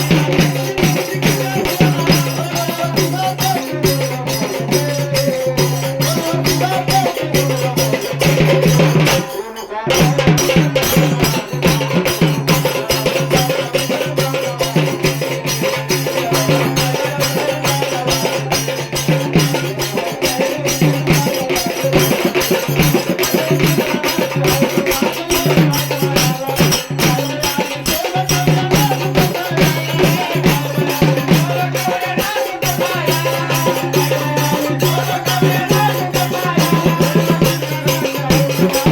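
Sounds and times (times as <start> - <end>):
shaker and hand percussion: 0.0 - 38.9.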